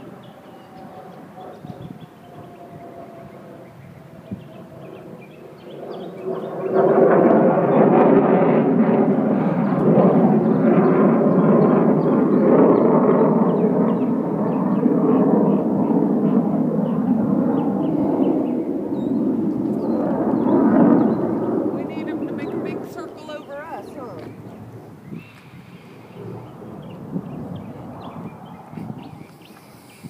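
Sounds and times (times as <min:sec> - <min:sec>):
jets roaring overhead: 0:00.0 - 0:30.0.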